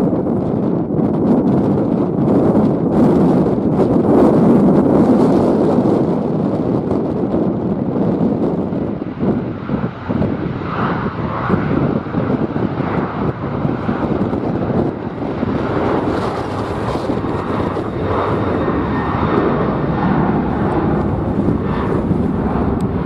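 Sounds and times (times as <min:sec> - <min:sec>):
jet engine whine: 0:00.0 - 0:23.0
wind buffeting microphone: 0:00.0 - 0:23.0.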